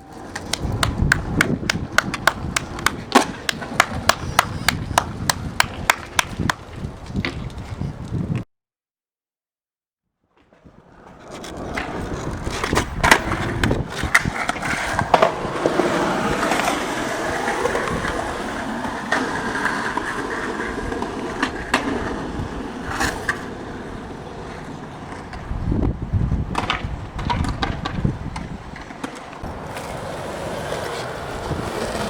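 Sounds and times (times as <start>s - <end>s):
skateboard clacks and knocks: 0.0s - 7.8s, 10.6s - 25.5s, 26.5s - 32.0s
skateboard wheels rolling on pavement: 0.0s - 8.4s, 10.3s - 32.0s.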